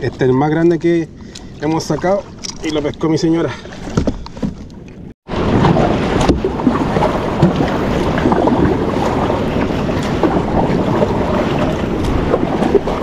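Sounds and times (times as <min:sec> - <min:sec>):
water splashing against kayak hull: 0:00.0 - 0:13.0
wind buffeting microphone: 0:00.0 - 0:13.0.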